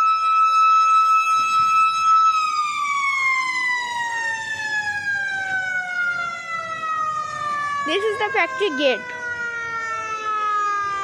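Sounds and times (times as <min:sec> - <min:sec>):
siren winding down: 0:00.0 - 0:11.0.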